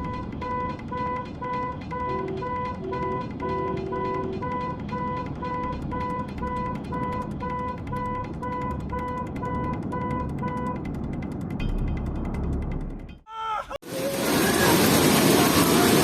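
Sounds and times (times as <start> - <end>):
low steady rumble: 0.0 - 13.2.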